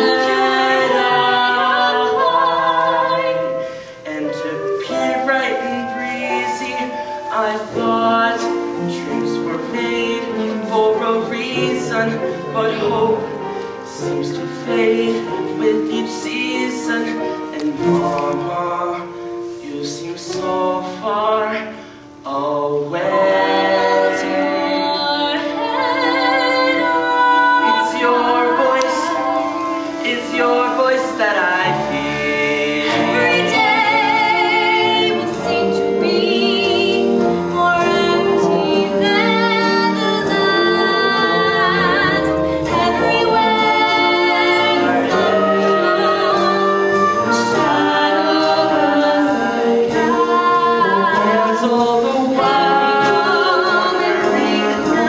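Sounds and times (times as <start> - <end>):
instrumental accompaniment: 0.0 - 55.0
person singing with vibrato: 0.0 - 55.0.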